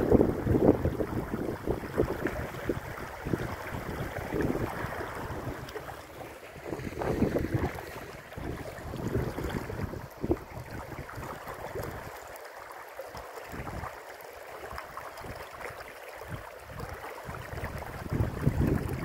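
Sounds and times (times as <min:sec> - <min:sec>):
wind buffeting the microphone: 0:00.0 - 0:12.1, 0:13.5 - 0:14.0, 0:16.2 - 0:19.0
river water running over stones: 0:00.0 - 0:19.0.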